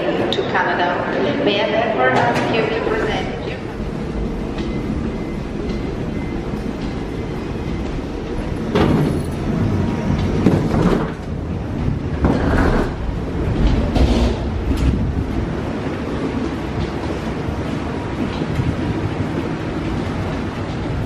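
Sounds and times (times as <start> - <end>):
suitcase wheels rumbling: 0.0 - 21.0.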